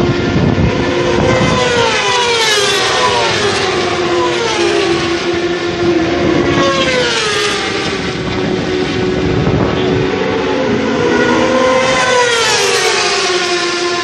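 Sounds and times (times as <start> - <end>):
steady motorbike engine note: 0.0 - 14.0
superbikes passing at full throttle: 0.0 - 14.0.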